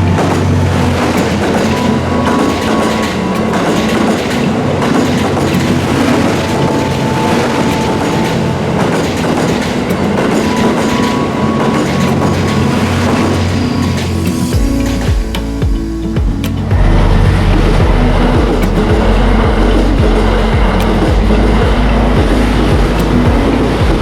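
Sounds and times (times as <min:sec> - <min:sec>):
train passing close by: 0:00.0 - 0:24.0
wheels clicking over rails: 0:00.0 - 0:24.0.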